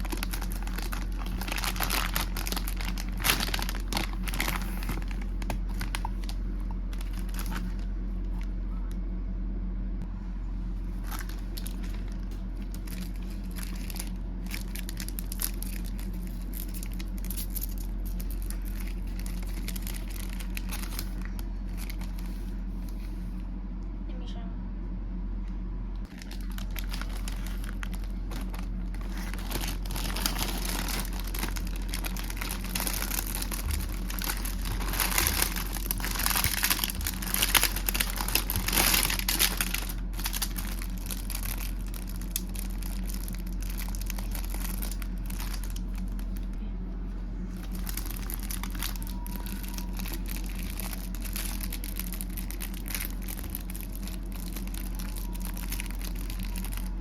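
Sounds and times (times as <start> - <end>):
plastic packaging crinkling: 0.0 - 8.5, 10.9 - 23.1, 26.0 - 46.6, 47.5 - 57.0
low background hum: 0.0 - 57.0.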